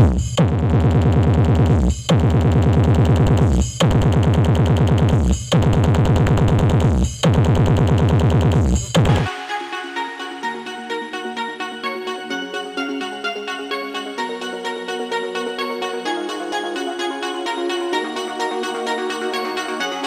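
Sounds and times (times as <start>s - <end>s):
bass-heavy electronic music: 0.0s - 20.0s.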